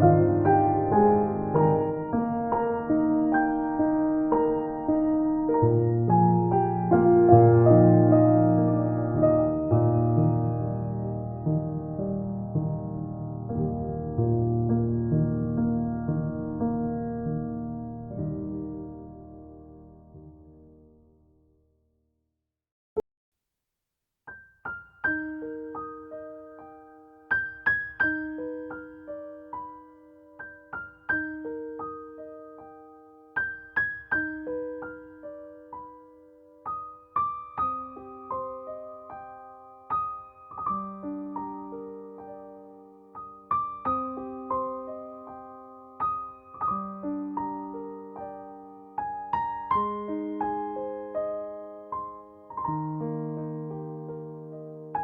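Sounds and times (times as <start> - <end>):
soft piano music: 0.0 - 21.6, 24.3 - 55.0.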